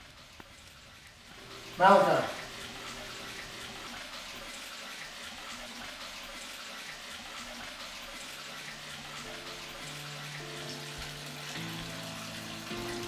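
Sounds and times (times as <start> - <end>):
water filling a bathtub: 0.0 - 13.0.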